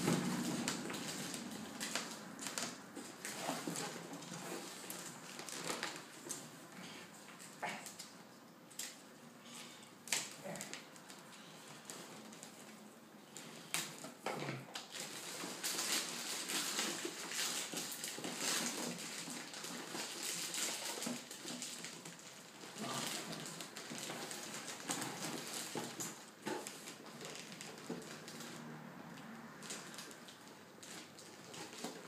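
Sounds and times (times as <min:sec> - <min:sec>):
plastic packaging crinkling: 0:00.0 - 0:06.6, 0:10.0 - 0:32.0.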